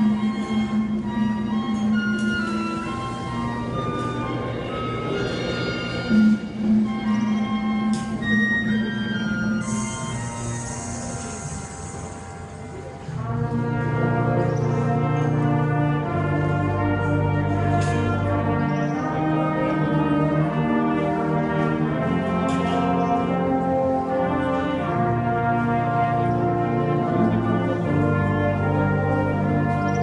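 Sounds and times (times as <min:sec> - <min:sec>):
brass section: 0:00.0 - 0:30.0
wind band playing: 0:00.0 - 0:30.0.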